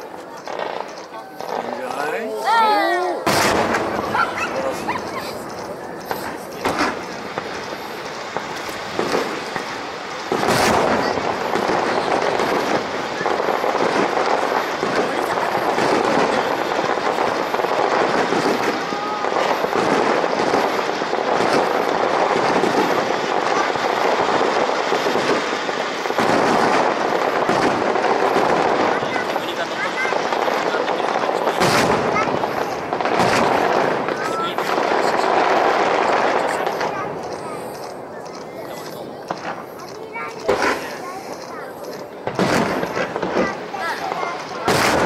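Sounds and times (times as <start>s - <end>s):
firework bang: 0.0s - 45.0s
fireworks crackling: 0.0s - 45.0s.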